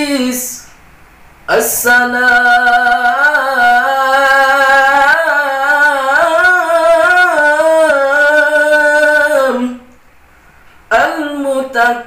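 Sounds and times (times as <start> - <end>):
man reciting melodically: 0.0 - 0.8, 1.5 - 10.0, 10.9 - 12.0.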